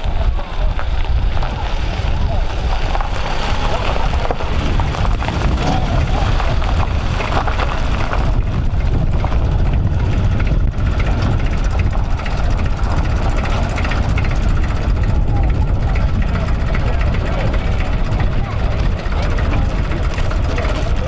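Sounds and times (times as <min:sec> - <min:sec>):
tractor engines rumbling: 0:00.0 - 0:21.0.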